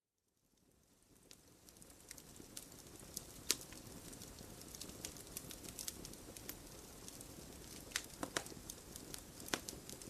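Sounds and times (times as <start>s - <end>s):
campfire crackling and popping: 0.6s - 10.0s.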